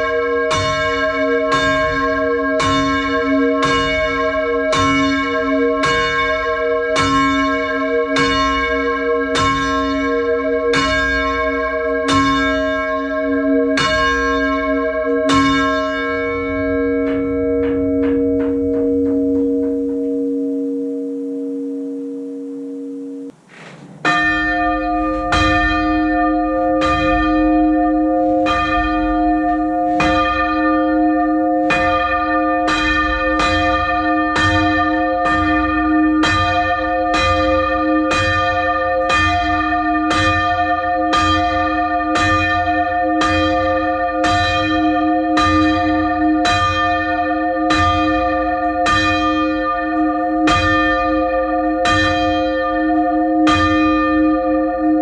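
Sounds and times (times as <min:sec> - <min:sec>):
church bells ringing: 0:00.0 - 0:55.0.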